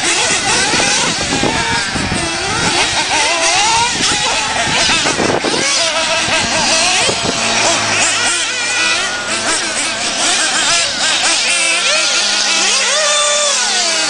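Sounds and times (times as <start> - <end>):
steady low hum: 0.0 - 12.7
small high-revving buggy engines: 0.0 - 14.0.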